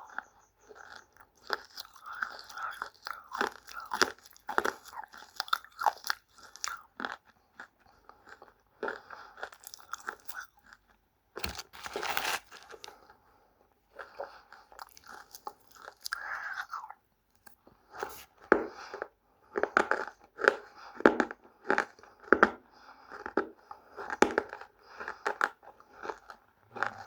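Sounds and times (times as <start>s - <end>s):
dry clay being chewed: 0.0s - 27.0s.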